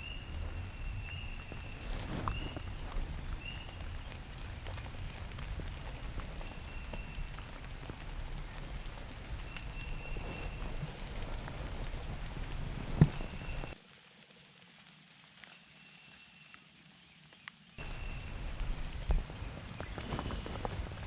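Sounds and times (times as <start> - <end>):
rain pattering: 0.0 - 15.8, 17.6 - 21.0.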